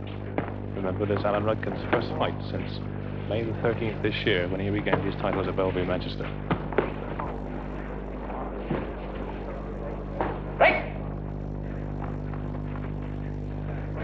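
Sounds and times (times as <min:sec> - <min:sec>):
steady recording hum: 0:00.0 - 0:14.0
crowd murmur: 0:00.1 - 0:14.0.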